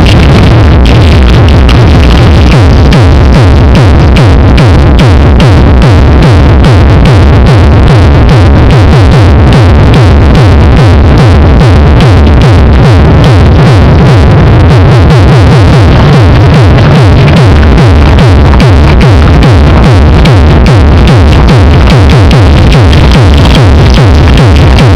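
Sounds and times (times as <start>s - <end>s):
loud electronic dance music: 0.0s - 24.9s.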